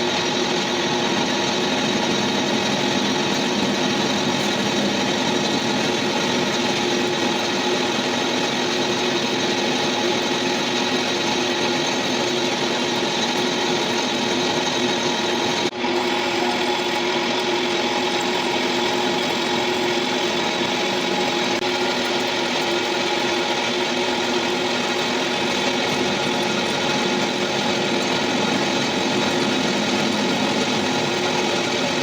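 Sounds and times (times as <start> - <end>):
lathe machine hum: 0.0 - 32.0.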